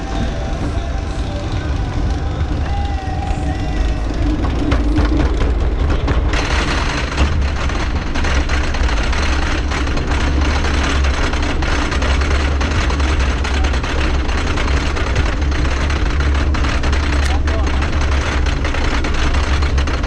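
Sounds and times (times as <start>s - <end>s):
clatter of ratchet clacks: 0.0s - 20.0s
lift chain droning: 0.0s - 20.0s.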